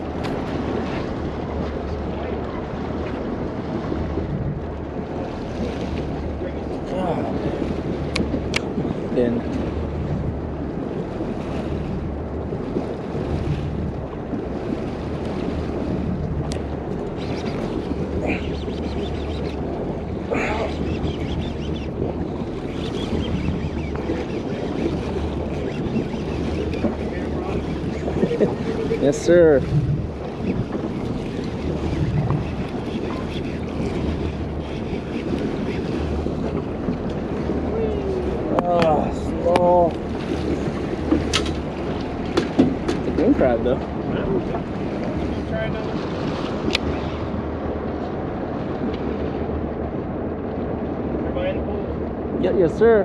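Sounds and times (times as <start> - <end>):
boat engine hum: 0.0 - 53.0
water washing against hull: 0.0 - 53.0
wind buffeting microphone: 0.0 - 53.0.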